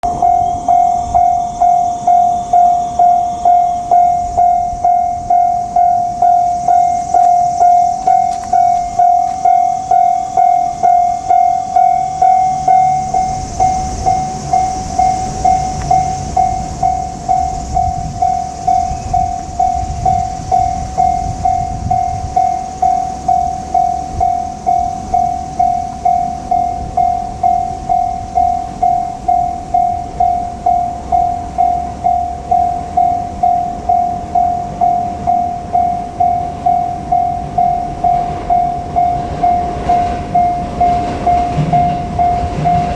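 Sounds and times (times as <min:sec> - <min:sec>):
electric train passing: 0:00.0 - 0:42.9
level crossing bell ringing: 0:00.0 - 0:42.9
rail hissing: 0:00.1 - 0:42.9.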